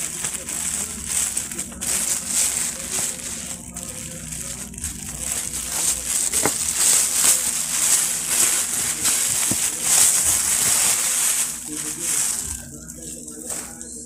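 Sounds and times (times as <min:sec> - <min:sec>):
plastic bag rustling: 0:00.0 - 0:14.0.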